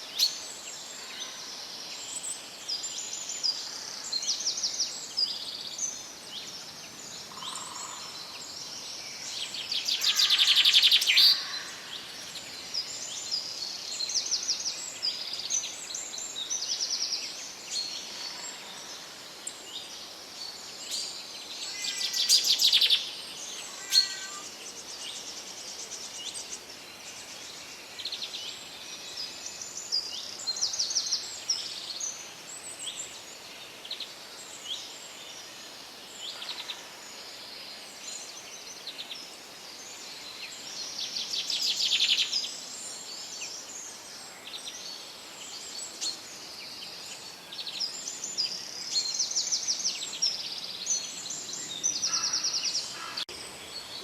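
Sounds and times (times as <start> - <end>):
background hiss: 0.0 - 54.0
songbirds singing and chirping: 0.0 - 54.0.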